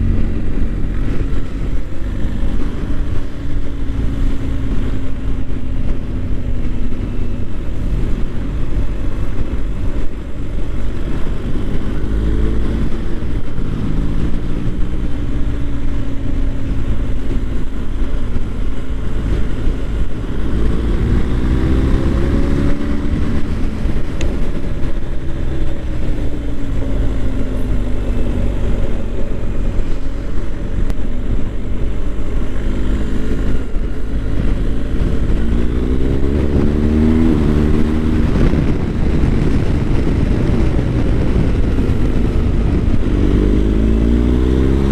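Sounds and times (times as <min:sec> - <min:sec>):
motorcycle engine accelerating: 0:00.0 - 0:44.9
road noise: 0:00.0 - 0:44.9
wind rush: 0:00.0 - 0:44.9.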